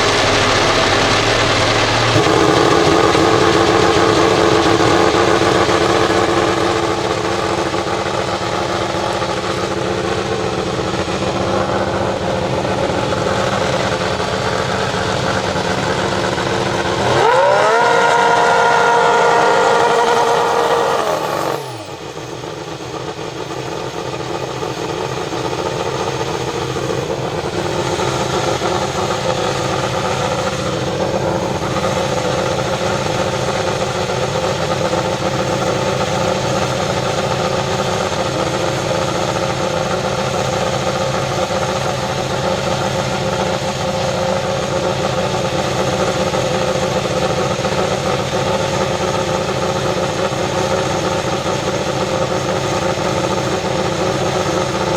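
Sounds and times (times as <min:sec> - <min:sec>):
racing car engine at high revs: 0:00.0 - 0:54.9.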